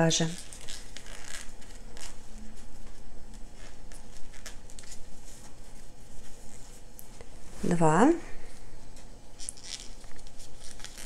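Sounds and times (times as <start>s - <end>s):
cord rustling and rubbing: 0.2s - 7.8s, 8.9s - 11.0s.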